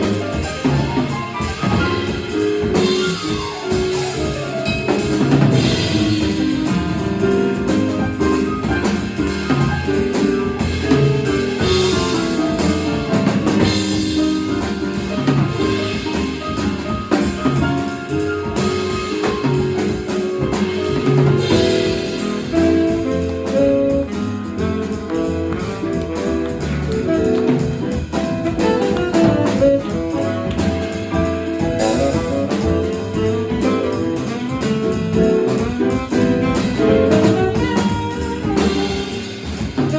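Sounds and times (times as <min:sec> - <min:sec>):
jazz quartet playing: 0:00.0 - 0:39.9.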